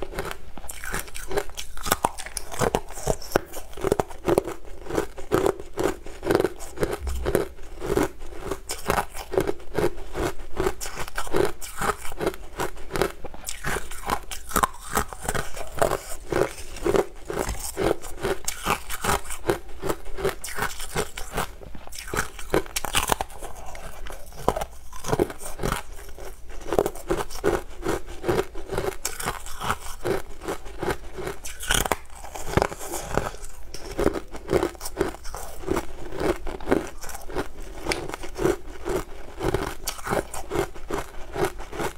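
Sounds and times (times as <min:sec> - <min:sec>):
crunching ice between teeth: 0:00.0 - 0:41.9.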